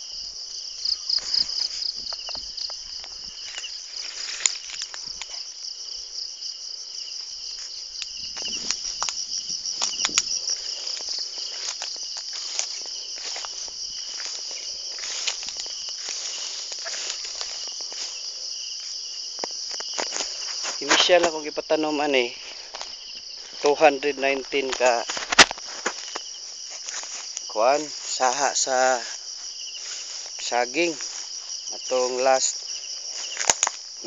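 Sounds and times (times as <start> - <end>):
footsteps crunching through dry grass: 0.0 - 34.0
insects shrilling: 0.0 - 34.0.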